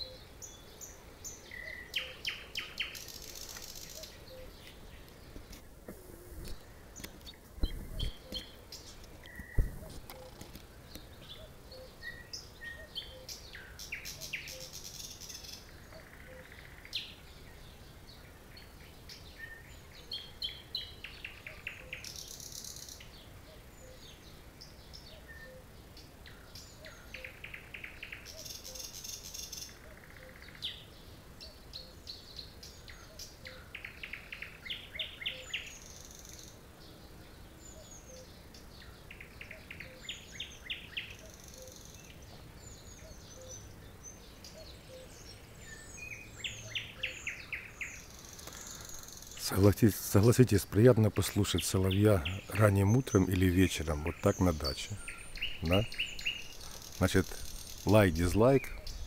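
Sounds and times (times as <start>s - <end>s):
nightingale singing: 0.0s - 59.0s.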